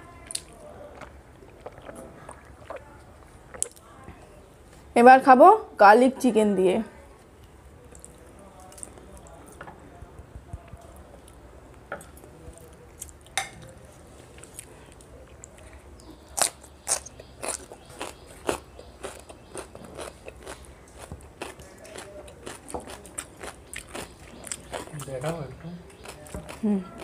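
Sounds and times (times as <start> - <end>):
person chewing food: 0.2 - 4.0, 7.4 - 9.6, 10.6 - 27.0.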